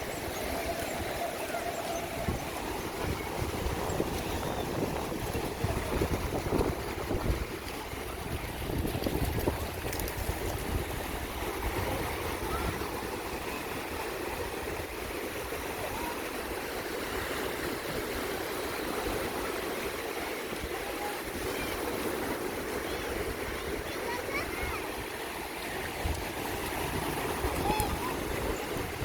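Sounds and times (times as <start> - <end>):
wind rumbling on microphone: 0.0 - 16.6, 20.6 - 29.0
sea surf washing on beach: 0.0 - 29.0.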